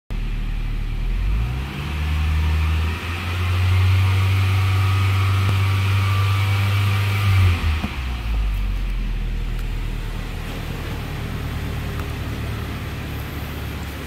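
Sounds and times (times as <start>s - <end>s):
car engine revving: 0.2s - 14.0s.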